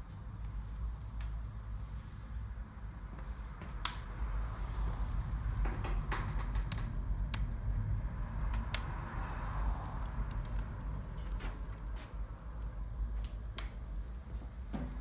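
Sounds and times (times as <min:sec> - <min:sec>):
fire crackling pops: 0:00.0 - 0:02.0, 0:02.7 - 0:15.0
wood fire rumbling: 0:00.0 - 0:15.0.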